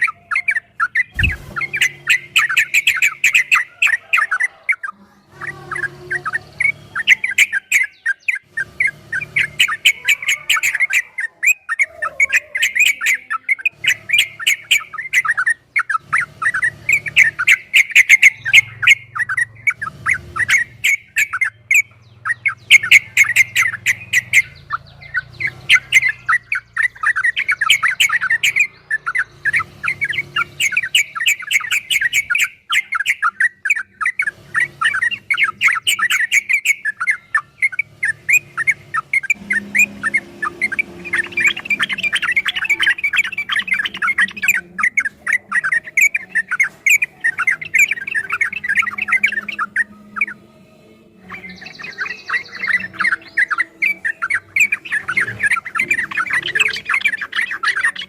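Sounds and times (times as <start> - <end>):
bulbul singing chattering phrases: 0.0 - 58.0.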